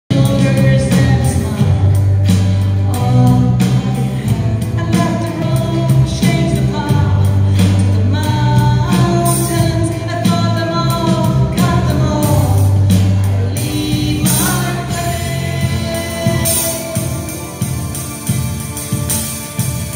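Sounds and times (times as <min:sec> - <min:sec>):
electric bass: 0:00.0 - 0:19.9
drums with cymbals: 0:00.1 - 0:19.9
electric guitar: 0:00.1 - 0:19.9
person singing: 0:00.1 - 0:19.9.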